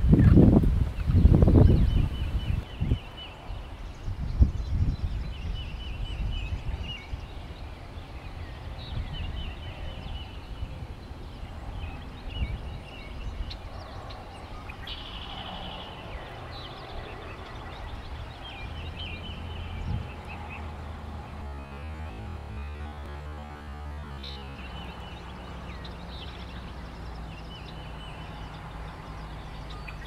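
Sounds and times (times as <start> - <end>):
birds chattering: 0.0 - 30.0
low rumble: 0.0 - 30.0.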